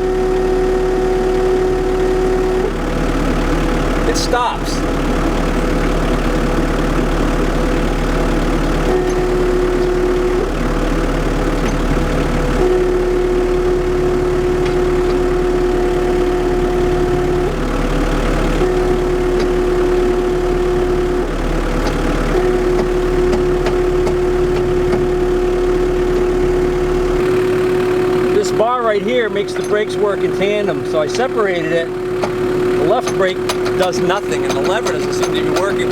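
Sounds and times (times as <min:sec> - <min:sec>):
diesel engine idling: 0:00.0 - 0:35.9
hydraulic whine: 0:00.0 - 0:35.9.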